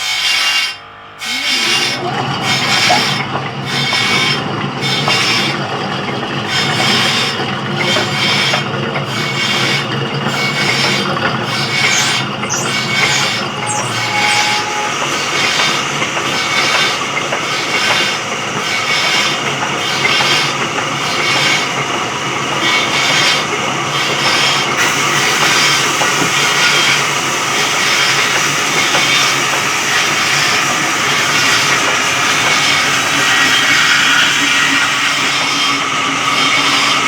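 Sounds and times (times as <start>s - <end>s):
sawmill saw cutting log: 0.0s - 37.0s.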